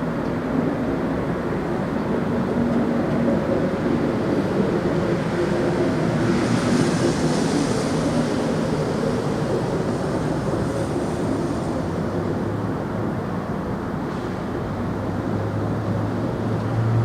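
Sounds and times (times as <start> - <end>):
loud continuous roar: 0.0 - 17.0.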